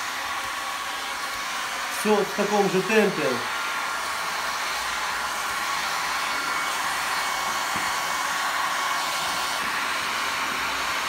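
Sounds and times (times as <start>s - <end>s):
heat gun blowing: 0.0s - 11.0s.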